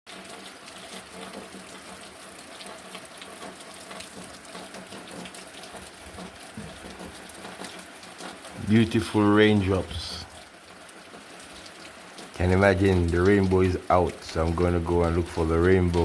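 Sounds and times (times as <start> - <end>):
raindrops ticking: 0.1 - 16.0
steady rain falling: 0.1 - 16.0.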